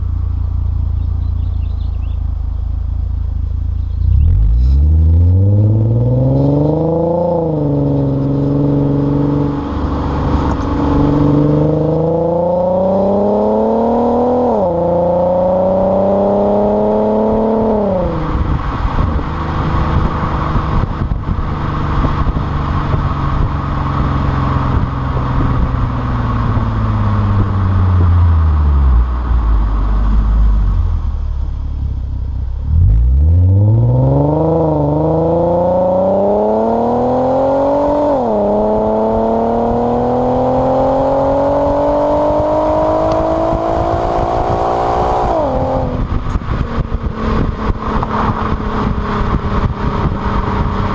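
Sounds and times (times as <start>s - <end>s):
car exhaust under heavy throttle: 0.0s - 50.9s.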